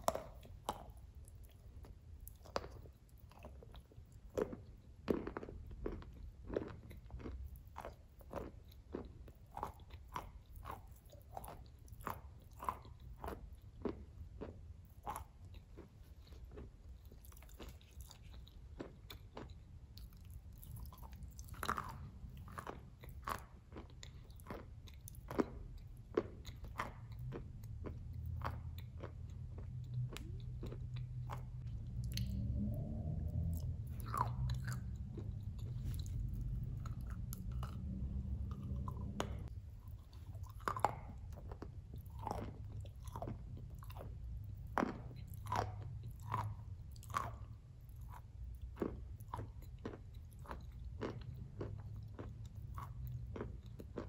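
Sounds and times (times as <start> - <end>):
crunching and chewing: 0.0 - 54.0
low steady hum: 0.0 - 54.0.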